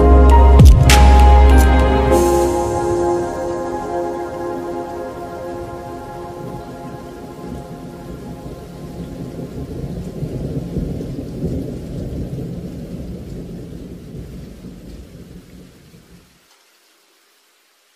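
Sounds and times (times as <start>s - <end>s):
rolling thunder: 0.0s - 15.4s
rain: 0.0s - 17.9s.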